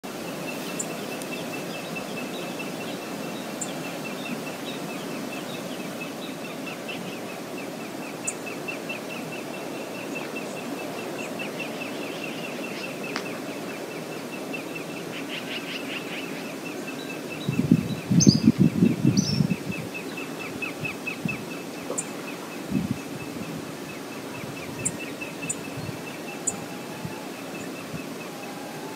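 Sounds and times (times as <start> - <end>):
outdoor background hiss: 0.0 - 28.9.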